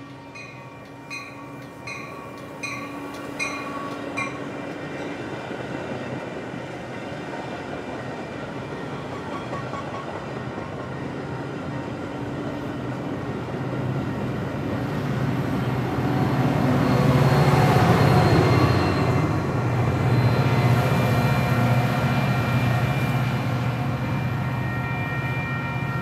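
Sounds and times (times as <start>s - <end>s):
train rolling rumble: 0.0s - 26.0s.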